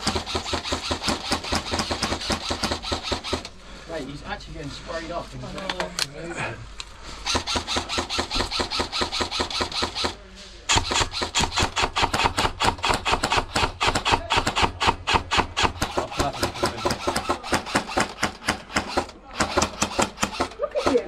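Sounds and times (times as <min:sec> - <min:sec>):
airsoft rifle firing full-auto: 0:00.0 - 0:03.5, 0:07.2 - 0:21.0.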